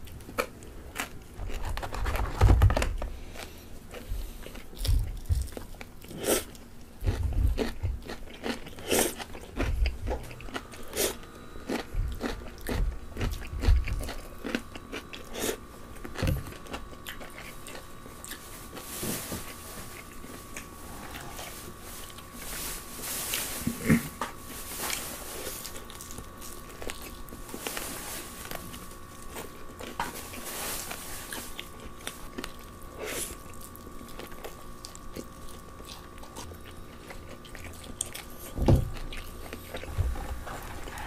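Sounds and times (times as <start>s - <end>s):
crisp crunching and chewing: 0.0s - 41.0s
faint steady hum: 0.0s - 41.0s.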